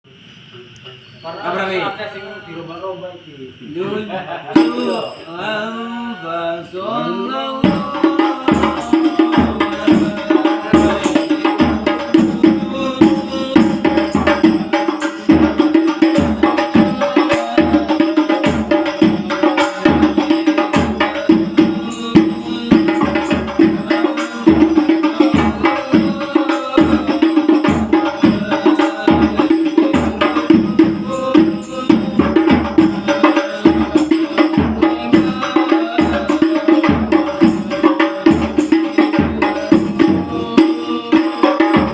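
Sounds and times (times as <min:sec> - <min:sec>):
frame drum ensemble: 0:04.4 - 0:05.2, 0:07.6 - 0:41.9.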